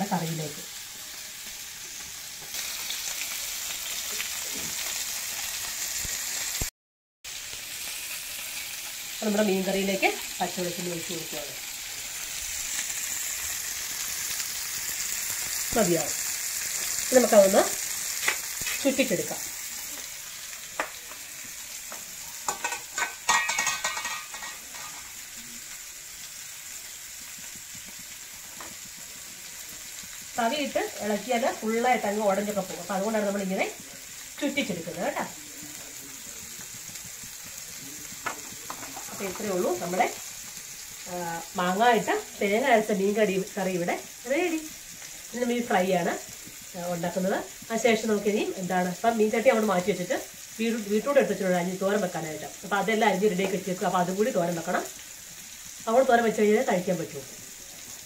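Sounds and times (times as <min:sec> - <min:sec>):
fish sizzling in oil: 0:00.0 - 0:58.0.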